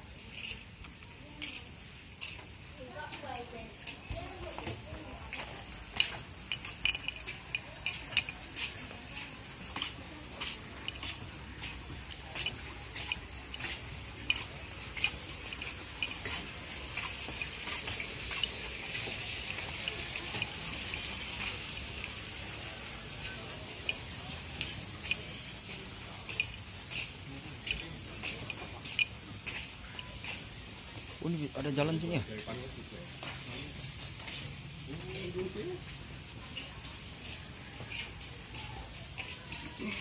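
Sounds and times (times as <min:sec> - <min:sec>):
footsteps on wooden boardwalk: 0:00.1 - 0:31.2, 0:33.1 - 0:35.2.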